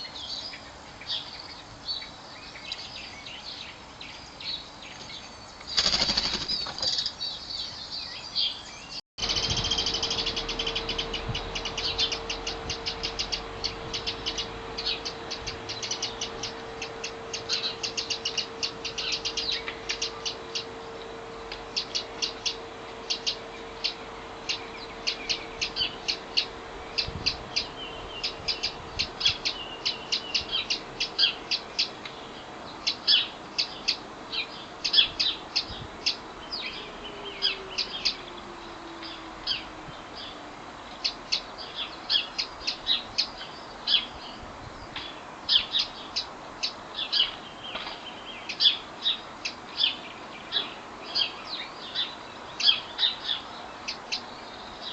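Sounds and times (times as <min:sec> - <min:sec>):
birds chirping: 0:00.0 - 0:54.9
faint steady hum: 0:07.2 - 0:54.9.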